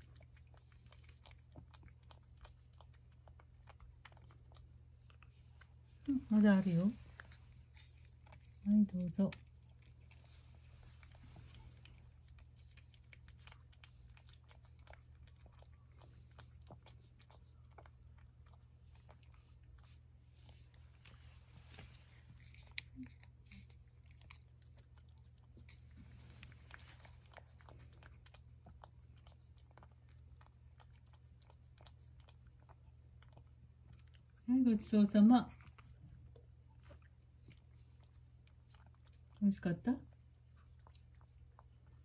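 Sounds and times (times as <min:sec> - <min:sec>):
cat licking wet clicks: 0:00.0 - 0:34.9, 0:35.5 - 0:42.0.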